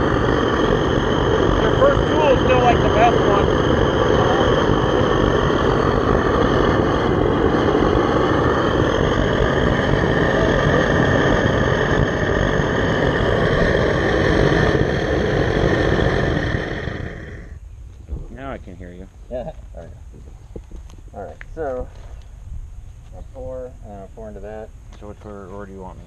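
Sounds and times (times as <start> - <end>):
propane burner roaring: 0.0 - 26.0.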